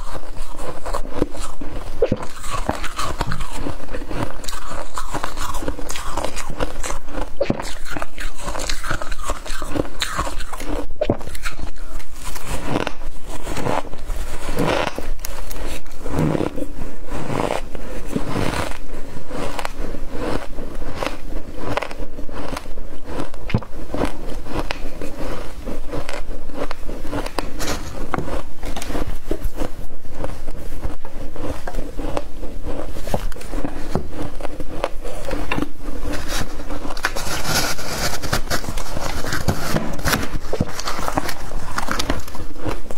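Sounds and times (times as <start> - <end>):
frost being chewed crunching: 0.0 - 42.9
metal spoon scraping frost: 0.0 - 42.9.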